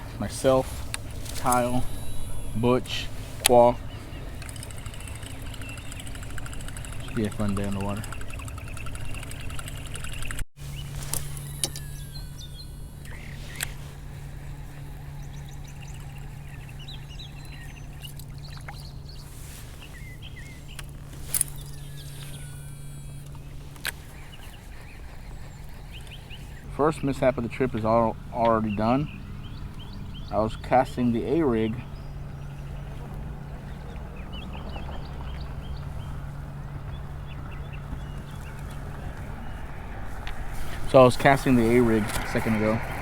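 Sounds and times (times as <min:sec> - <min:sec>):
birds chirping and calling: 0:00.0 - 0:43.0
steady low hum: 0:00.0 - 0:43.0.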